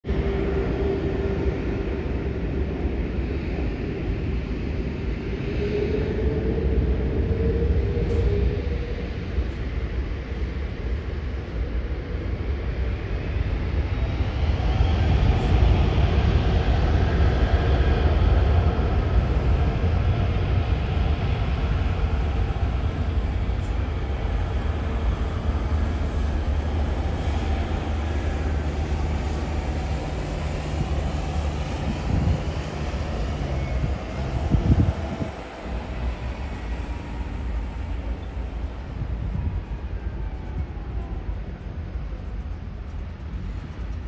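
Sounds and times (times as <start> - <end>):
jet engine whine: 0.0 - 44.0
jet engines roaring: 0.0 - 44.0.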